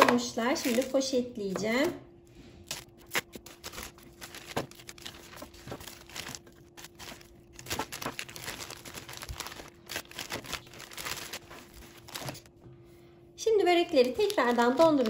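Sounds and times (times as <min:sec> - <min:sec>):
plastic bag crinkling: 0:00.0 - 0:01.2, 0:02.7 - 0:12.5, 0:13.7 - 0:15.0.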